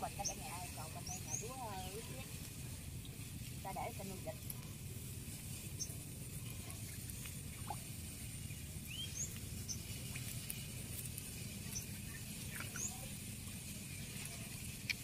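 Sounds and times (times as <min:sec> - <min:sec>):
steady low rumble: 0:00.0 - 0:15.0
light patter and ticks of net: 0:00.1 - 0:15.0.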